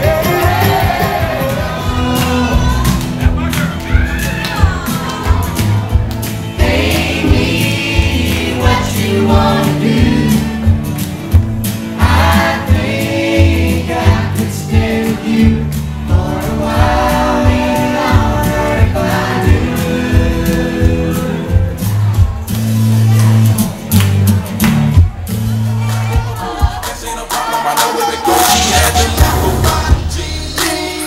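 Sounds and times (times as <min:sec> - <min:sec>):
song with singing drums and bass: 0:00.0 - 0:31.0.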